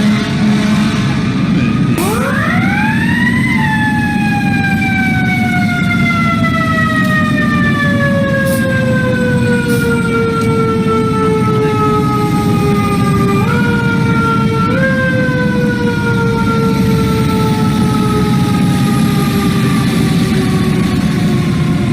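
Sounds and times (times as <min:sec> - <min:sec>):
fire truck siren wail: 0:00.0 - 0:21.9.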